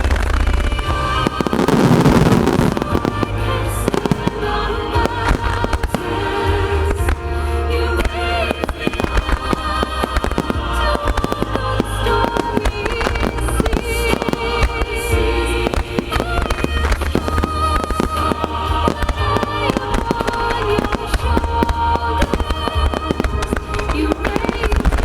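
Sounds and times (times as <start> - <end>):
fireworks bursts and crackling: 0.0 - 25.0
music: 0.0 - 25.0.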